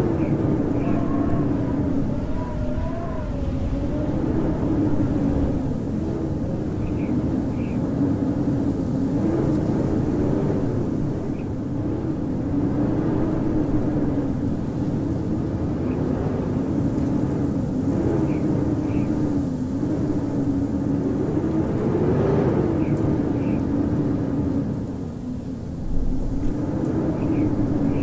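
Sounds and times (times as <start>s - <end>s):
howling wind: 0.0s - 28.0s.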